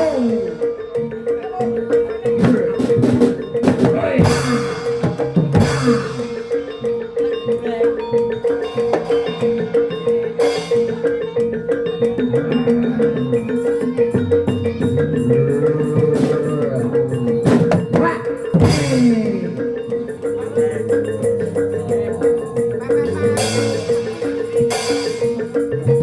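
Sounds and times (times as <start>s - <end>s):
gamelan music: 0.0s - 26.0s
hand drums: 0.0s - 26.0s
mallet-struck metal keys: 0.0s - 26.0s.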